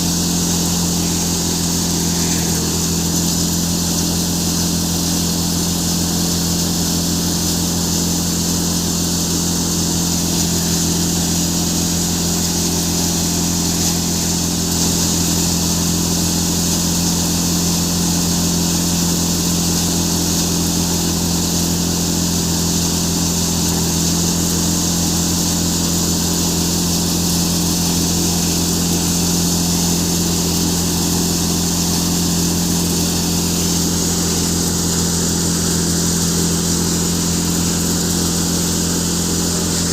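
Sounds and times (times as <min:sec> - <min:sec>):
threshing machine hiss: 0:00.0 - 0:39.9
tractor engine hum: 0:00.0 - 0:39.9.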